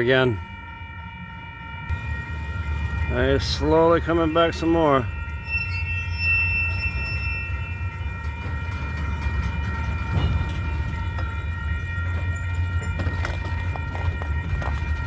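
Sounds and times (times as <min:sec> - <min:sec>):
steady high tones: 0:00.0 - 0:15.0
train low rumble: 0:00.0 - 0:15.0
train cars clicking and knocking: 0:01.9 - 0:15.0.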